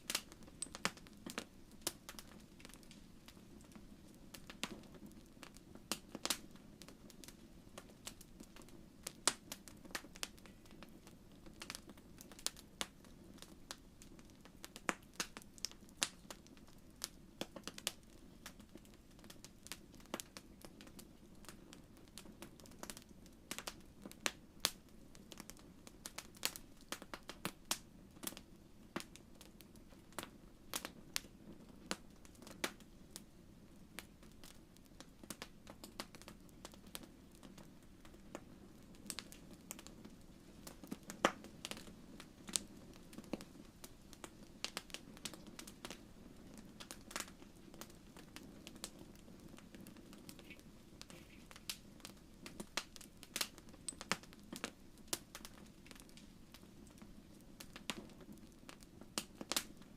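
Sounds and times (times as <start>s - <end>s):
low rush of flames: 0.0s - 59.9s
wood fire pops and snaps: 0.0s - 59.9s.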